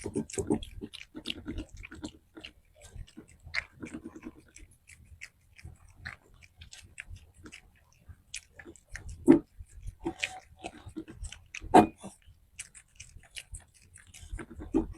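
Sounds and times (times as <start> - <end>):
pet chewing food: 0.0 - 14.9.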